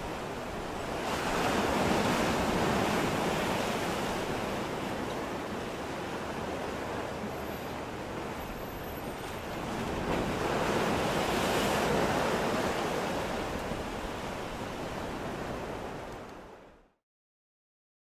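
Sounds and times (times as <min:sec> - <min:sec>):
ocean surf washing ashore: 0:00.0 - 0:16.8.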